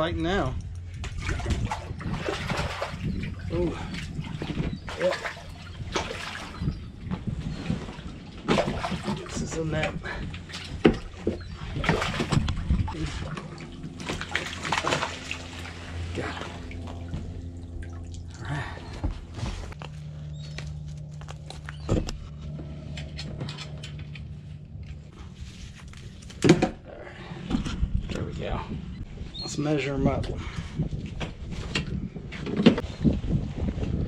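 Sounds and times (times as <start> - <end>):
water splashing and sloshing: 0.2 - 28.6.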